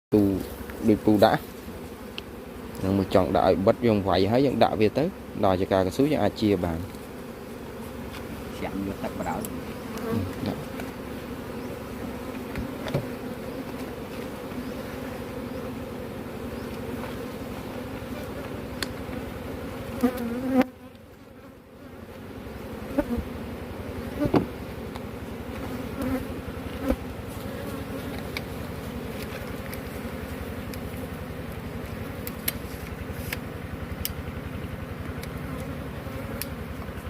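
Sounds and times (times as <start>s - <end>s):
bees buzzing: 0.2s - 37.0s.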